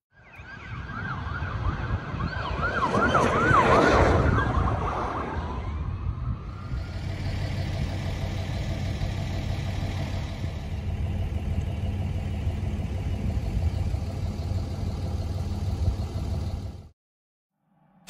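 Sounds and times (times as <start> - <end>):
car engine and road rumble: 0.2 - 16.9.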